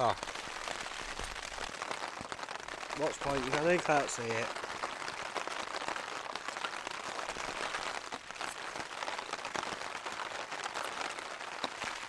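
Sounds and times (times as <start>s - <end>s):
rain pelting tent: 0.0s - 12.0s.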